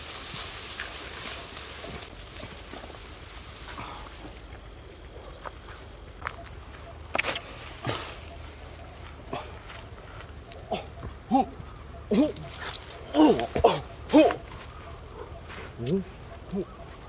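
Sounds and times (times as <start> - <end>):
insect high-pitched drone: 0.7 - 17.0.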